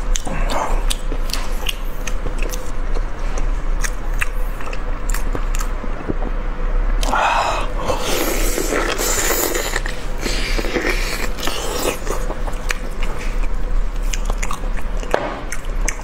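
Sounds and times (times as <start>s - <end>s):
person chewing meat: 0.0s - 6.4s, 7.0s - 16.0s.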